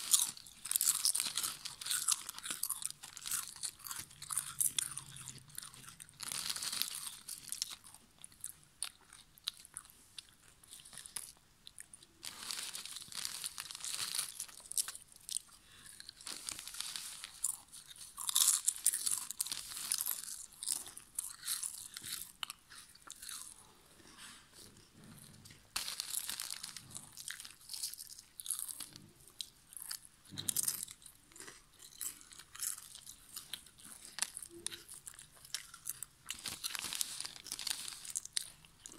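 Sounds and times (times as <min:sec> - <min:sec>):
potato chips crunching: 0:00.0 - 0:38.9.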